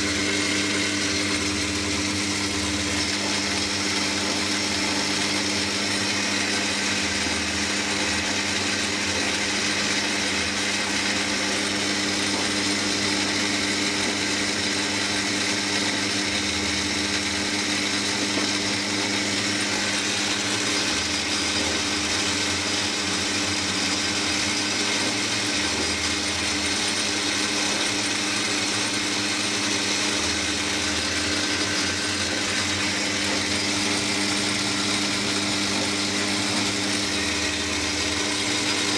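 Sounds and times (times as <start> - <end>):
metal lathe cutting steel: 0.0 - 38.9.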